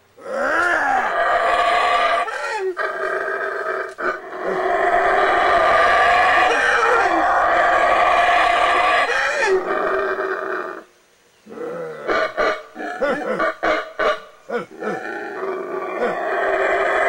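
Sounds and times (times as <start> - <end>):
howler monkeys roaring: 0.2 - 17.0.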